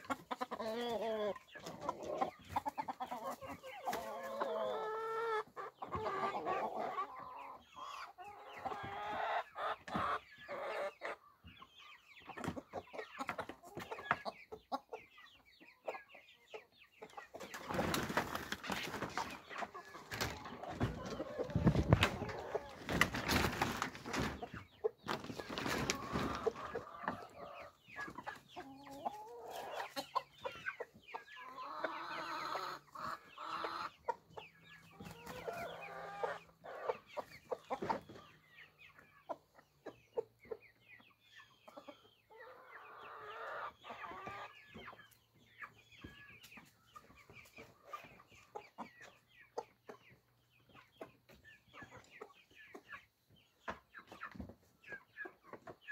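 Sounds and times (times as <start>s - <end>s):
chickens clucking: 0.0s - 55.9s
drawn-out chicken calls: 0.0s - 55.9s.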